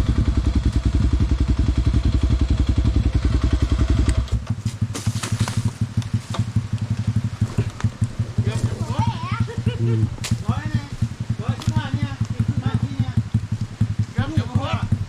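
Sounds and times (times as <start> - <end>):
dirt bike engine chugging: 0.0 - 15.0.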